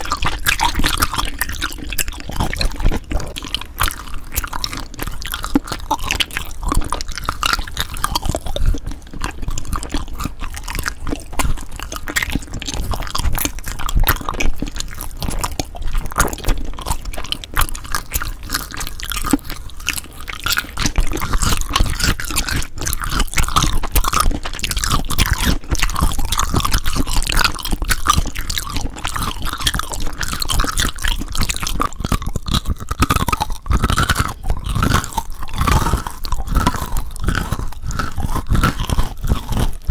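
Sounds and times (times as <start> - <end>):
close crunching and crackling clicks: 0.0 - 39.9.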